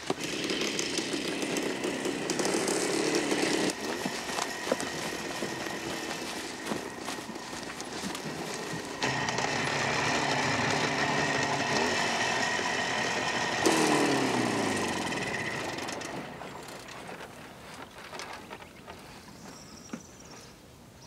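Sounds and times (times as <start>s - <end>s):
vehicle engine running: 0.0s - 17.6s.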